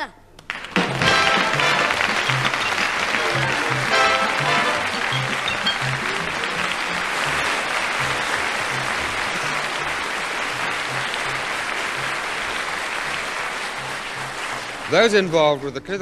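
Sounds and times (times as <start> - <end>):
audience applauding: 0.4 - 16.0
theme music playing low: 0.7 - 16.0.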